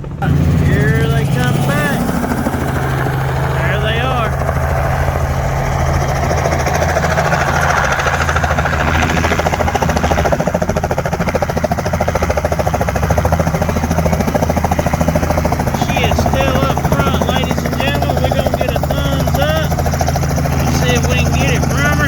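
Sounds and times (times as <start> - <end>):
helicopter rotor blades chopping: 0.0 - 22.0
low engine hum: 0.0 - 22.0.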